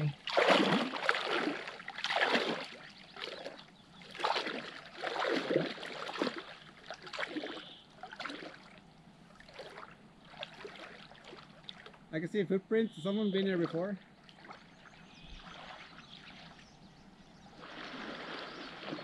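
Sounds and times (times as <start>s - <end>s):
water splashing and sloshing: 0.0s - 12.1s, 13.0s - 19.0s.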